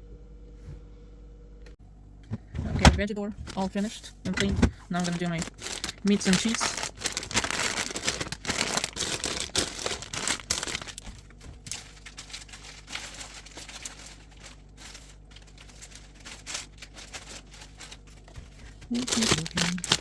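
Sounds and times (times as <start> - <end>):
plastic packaging crinkling: 3.4 - 20.0.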